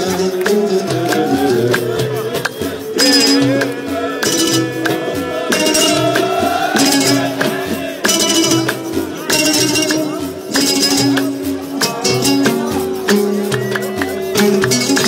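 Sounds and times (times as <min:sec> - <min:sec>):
background music with a beat: 0:00.0 - 0:15.0
bright percussion strikes: 0:00.4 - 0:15.0.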